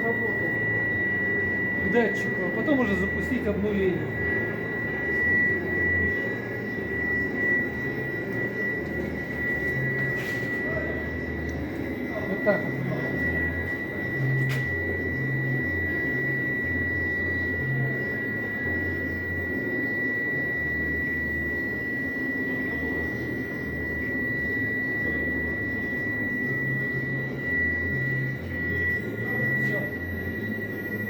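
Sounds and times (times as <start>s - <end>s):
high machine whine: 0.0s - 31.0s
machine hum: 0.0s - 31.0s.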